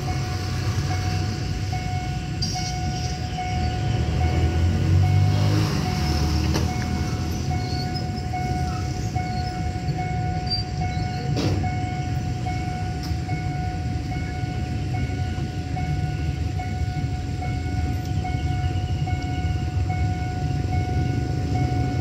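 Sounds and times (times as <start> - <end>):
level crossing warning bell ringing: 0.0 - 22.0.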